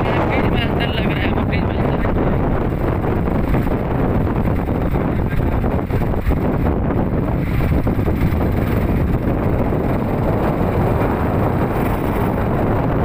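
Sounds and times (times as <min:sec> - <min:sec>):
vehicle rumble on road: 0:00.0 - 0:13.0
wind buffeting microphone: 0:00.0 - 0:13.0.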